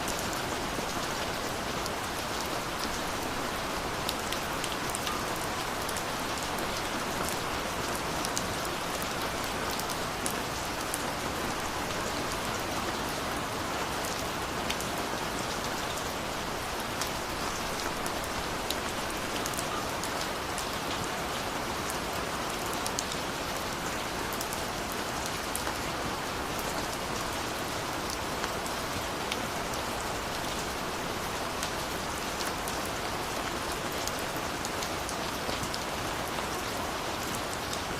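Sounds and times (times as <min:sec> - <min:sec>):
rain falling on a surface: 0:00.0 - 0:37.9.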